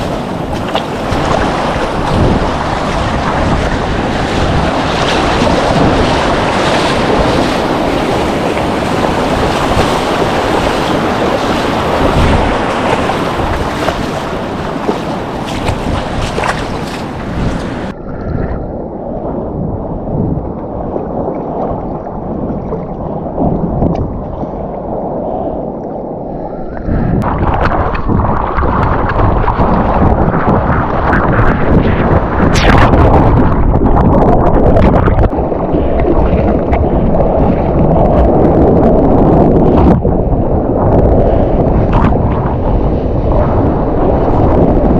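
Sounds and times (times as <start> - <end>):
rushing churning water: 0.0 - 19.6, 20.4 - 44.9
surf washing and sloshing: 0.0 - 44.9
wind buffeting microphone: 0.0 - 44.9.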